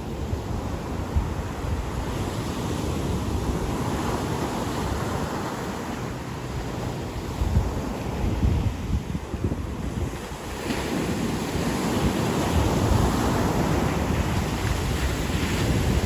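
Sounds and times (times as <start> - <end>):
ocean waves breaking: 0.0 - 16.0
wind buffeting the microphone: 0.0 - 16.0.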